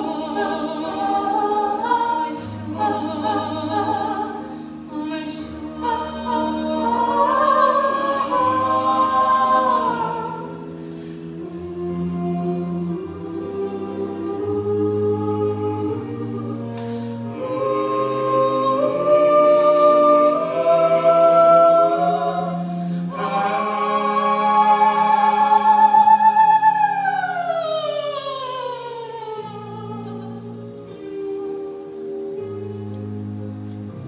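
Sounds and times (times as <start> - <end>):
choir-like backing voices: 0.0 - 34.0.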